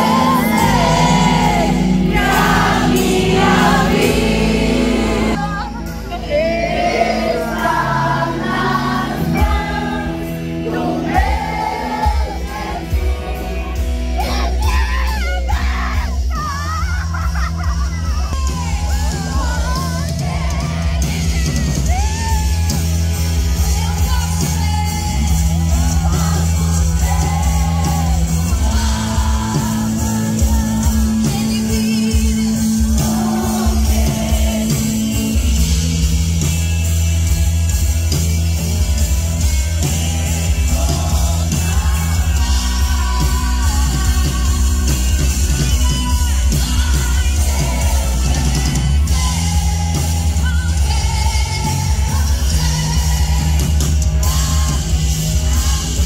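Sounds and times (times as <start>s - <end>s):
female lead singer: 0.0s - 17.1s, 18.2s - 36.6s, 37.3s - 56.0s
crowd singing along and yelling: 0.0s - 17.5s, 18.1s - 56.0s
heavy bass line: 0.0s - 56.0s
live gospel band playing: 0.0s - 56.0s.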